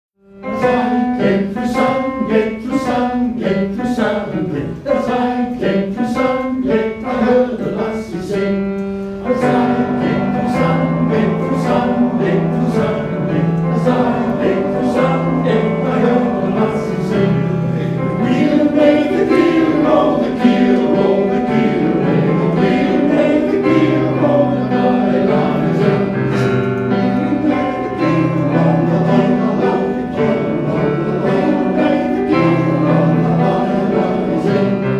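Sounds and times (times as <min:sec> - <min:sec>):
male voice choir singing: 0:00.4 - 0:34.9.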